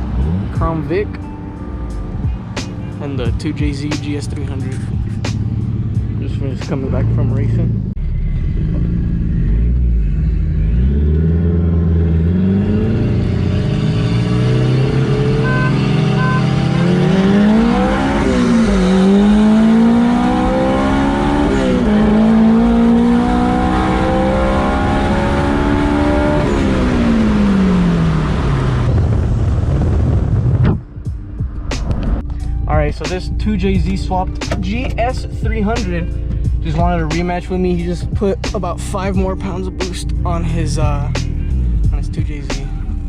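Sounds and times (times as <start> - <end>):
car engine accelerating hard: 0.0 - 43.0.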